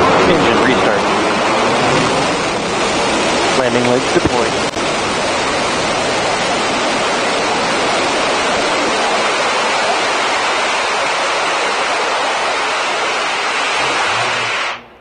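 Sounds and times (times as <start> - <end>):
rocket engine firing: 0.0 - 15.0.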